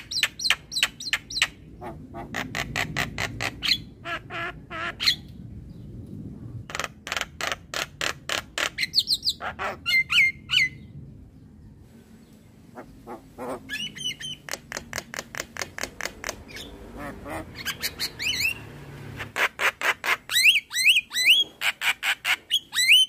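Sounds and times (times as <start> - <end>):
bird harsh chattering calls: 0.0 - 5.3, 6.7 - 10.8, 12.7 - 23.0.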